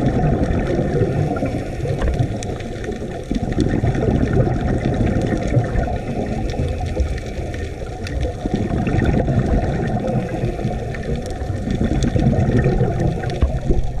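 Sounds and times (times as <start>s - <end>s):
underwater rumbling wash: 0.0s - 14.0s
faint clicks: 1.2s - 14.0s.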